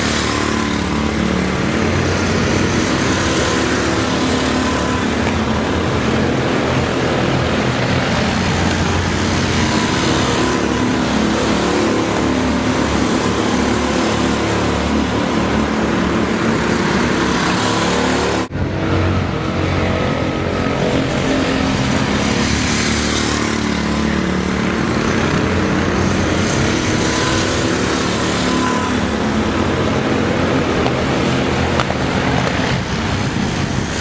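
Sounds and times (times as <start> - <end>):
go-kart engines racing: 0.0 - 34.0.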